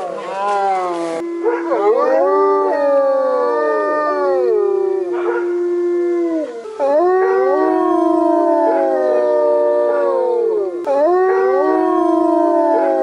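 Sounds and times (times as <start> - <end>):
wolves howling in chorus: 0.0 - 13.0.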